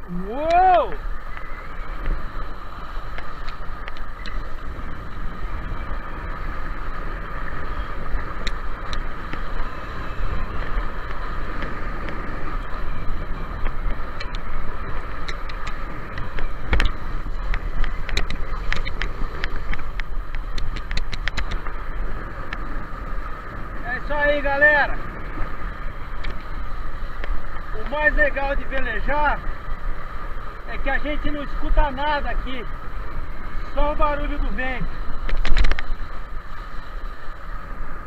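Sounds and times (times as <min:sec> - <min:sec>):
rushing water and spray: 0:00.0 - 0:38.0
wind buffeting microphone: 0:00.0 - 0:38.0.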